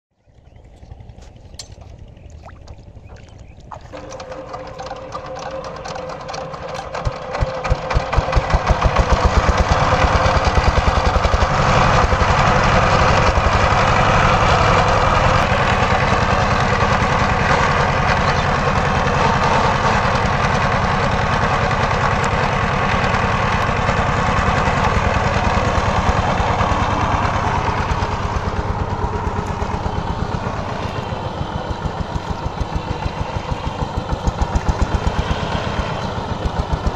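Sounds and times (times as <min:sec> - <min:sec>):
diesel power tiller engine running: 0:00.2 - 0:36.9.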